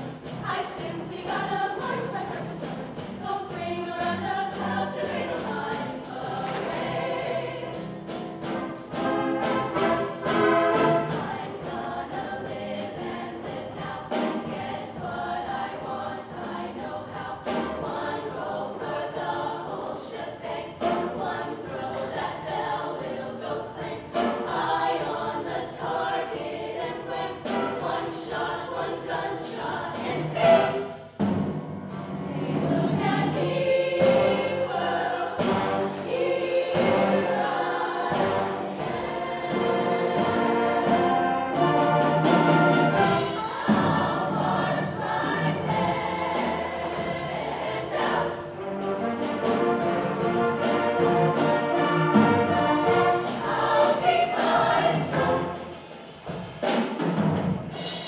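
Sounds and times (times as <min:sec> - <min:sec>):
drum hits: 0:00.0 - 0:18.9, 0:24.1 - 0:58.0
choir singing in harmony: 0:00.0 - 0:58.0
instrumental accompaniment: 0:00.0 - 0:58.0.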